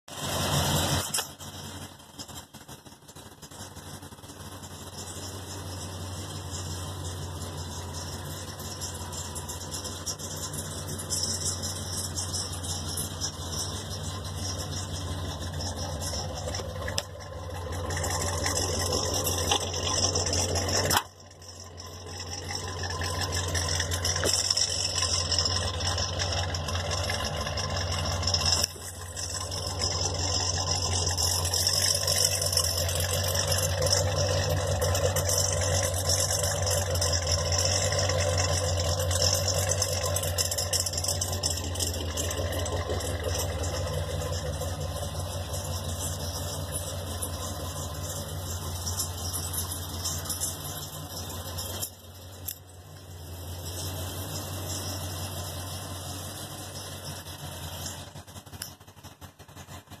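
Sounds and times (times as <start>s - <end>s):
car engine idling lumpily: 0.0s - 60.0s.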